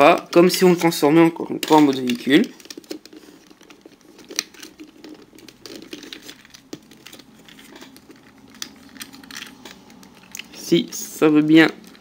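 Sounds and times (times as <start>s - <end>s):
plastic toy clicks and rustles: 0.0s - 12.0s.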